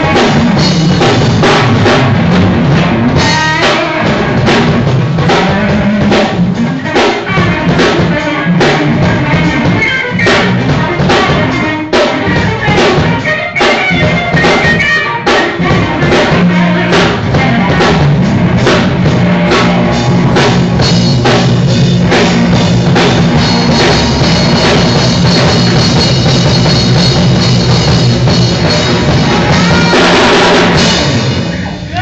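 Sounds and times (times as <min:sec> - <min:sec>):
bass guitar: 0:00.0 - 0:32.0
drum kit beat: 0:00.0 - 0:32.0
electric guitar: 0:00.0 - 0:32.0.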